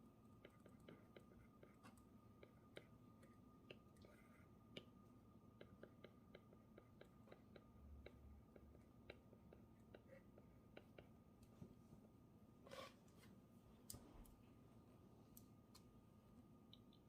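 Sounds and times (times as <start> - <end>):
faint high-pitched hum: 0.0 - 17.0.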